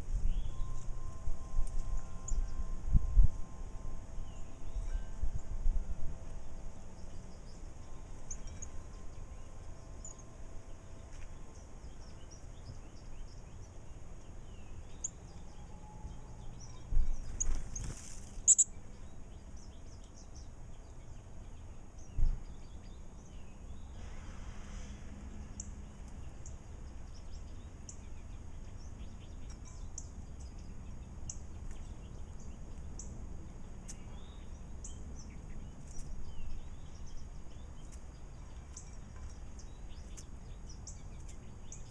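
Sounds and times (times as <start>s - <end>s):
small birds chirping: 0.0s - 2.7s, 4.1s - 41.9s.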